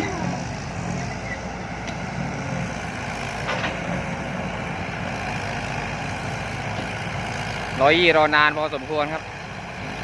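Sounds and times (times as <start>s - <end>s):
heavy diesel engines running: 0.0s - 10.0s.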